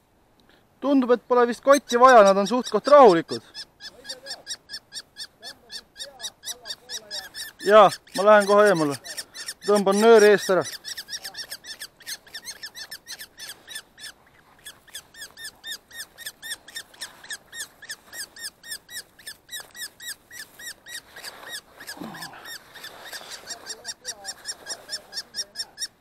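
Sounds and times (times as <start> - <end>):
kestrel shrill calls: 1.5 - 26.0.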